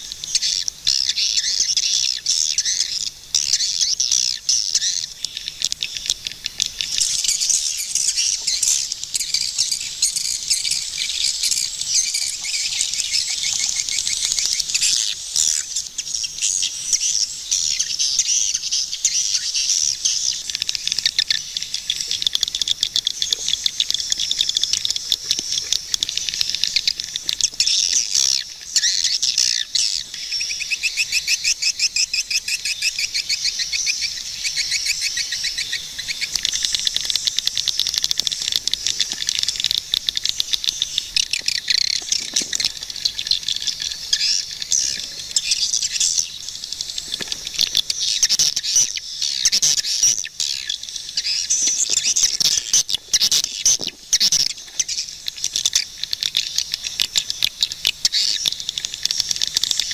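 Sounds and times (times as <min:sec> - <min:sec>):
swiftlets chirping and twittering: 0:00.0 - 0:59.9.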